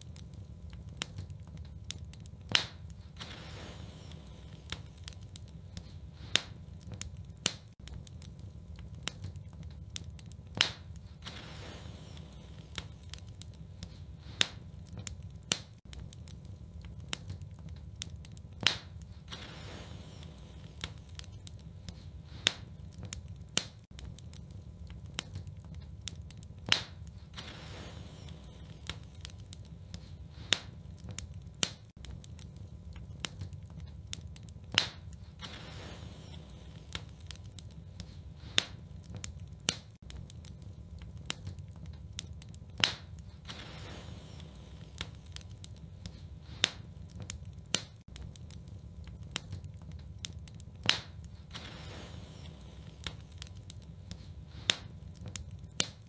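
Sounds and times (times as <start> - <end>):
low fire rumble: 0.0 - 56.0
sharp fire pops: 0.0 - 56.0
wood fire crackling: 0.0 - 56.0.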